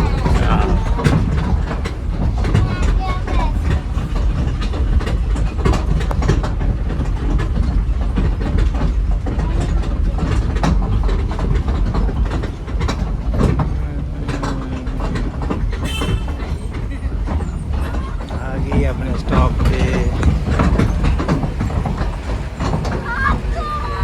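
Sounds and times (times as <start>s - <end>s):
toy train rumbling: 0.0s - 24.0s
wheels clacking over rails: 0.0s - 24.0s.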